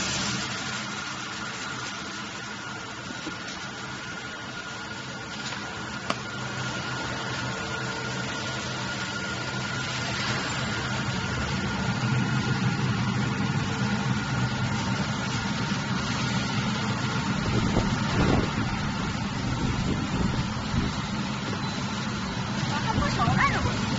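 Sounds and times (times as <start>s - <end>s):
corn crusher humming and whining: 0.0s - 23.9s.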